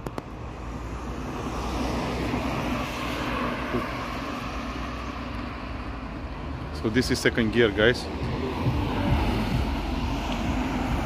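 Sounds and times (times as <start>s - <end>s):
vehicle passing on street: 0.0s - 11.0s.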